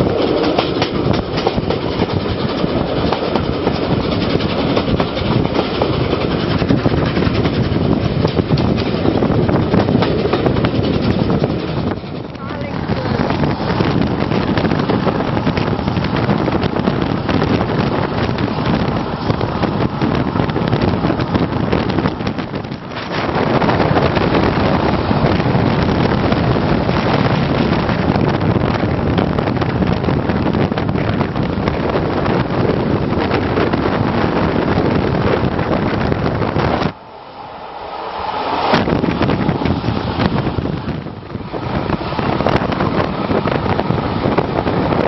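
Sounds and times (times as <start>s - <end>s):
moving passenger train: 0.0s - 45.0s
wind rushing over microphone: 0.0s - 45.0s.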